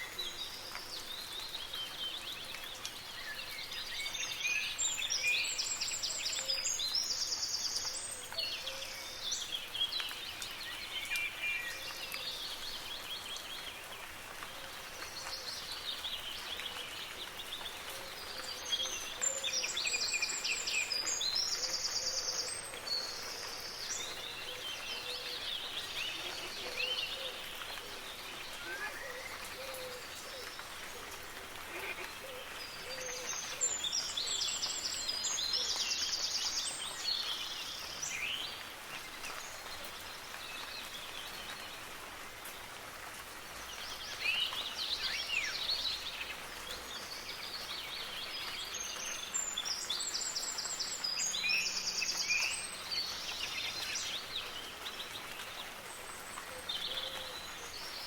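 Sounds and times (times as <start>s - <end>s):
birds singing: 0.0s - 42.7s, 43.6s - 58.0s
soft rain patter: 0.0s - 58.0s.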